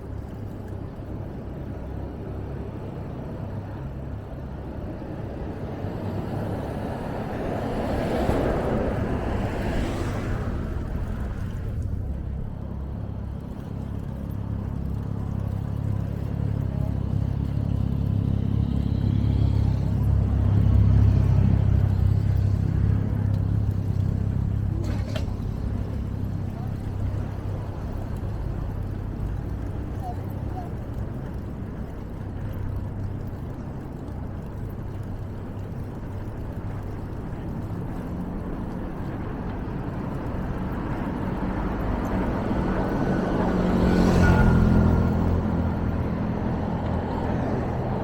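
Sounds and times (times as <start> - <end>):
road traffic rumbling: 0.0 - 48.0
vehicle passing: 4.4 - 15.9, 17.8 - 48.0.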